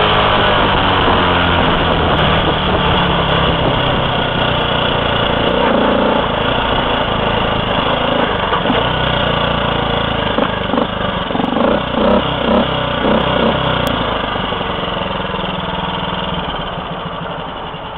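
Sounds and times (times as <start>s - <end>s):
small motorcycle engine running: 0.0s - 17.9s.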